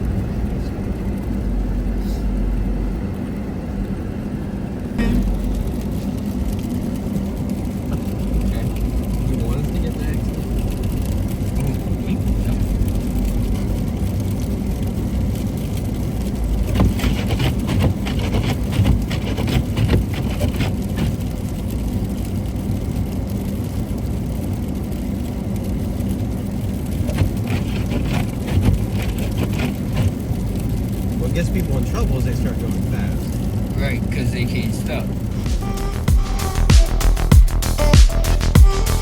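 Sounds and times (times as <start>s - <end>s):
car engine and tyre rumble: 0.0s - 38.5s.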